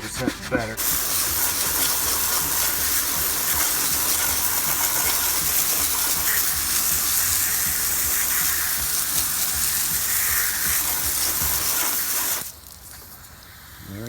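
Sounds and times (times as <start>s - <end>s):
steady hissing from cleaning: 0.0s - 14.0s.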